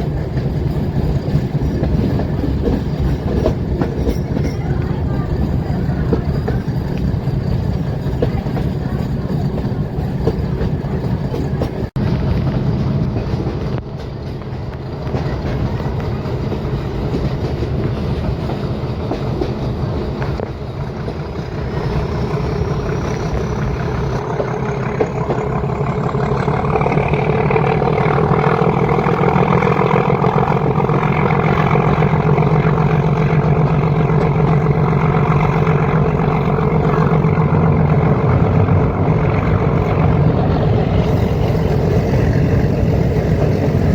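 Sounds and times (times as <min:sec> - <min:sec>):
diesel train rumbling: 0:00.0 - 0:43.9
wheels clattering over rails: 0:00.0 - 0:43.9.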